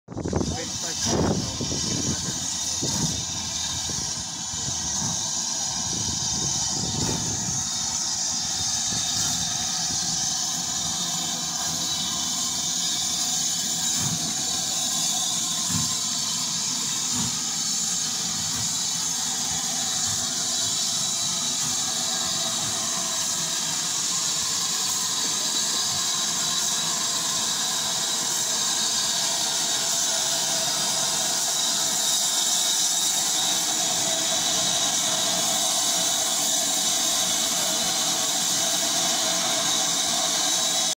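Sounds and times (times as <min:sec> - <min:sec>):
steam locomotive hissing: 0:00.1 - 0:40.9.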